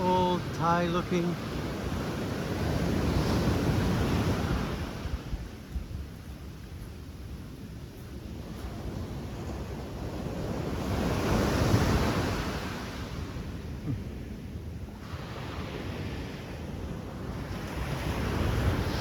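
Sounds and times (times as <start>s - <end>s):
waves crashing on a beach: 0.0s - 19.0s
wind rumbling on microphone: 0.0s - 19.0s.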